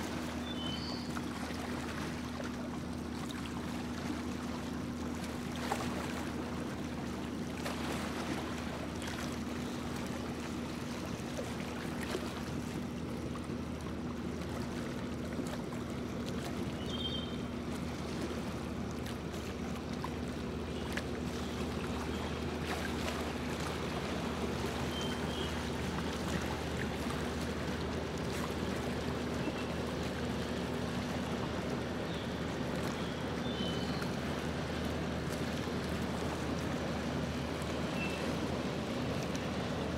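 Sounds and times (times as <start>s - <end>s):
boat motor droning: 0.0s - 39.9s
water splashing along hull: 0.0s - 39.9s.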